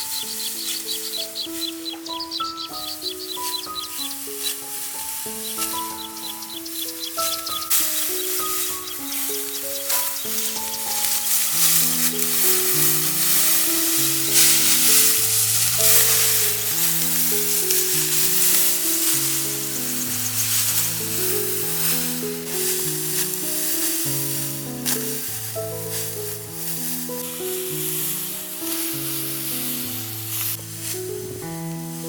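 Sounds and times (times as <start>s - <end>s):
food sizzling in a pan: 0.0s - 32.0s
slow background music: 0.0s - 32.0s.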